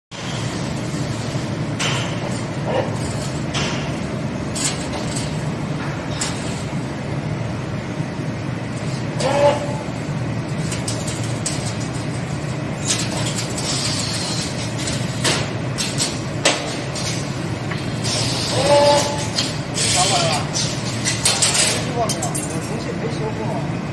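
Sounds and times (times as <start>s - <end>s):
machine humming: 0.1s - 23.9s.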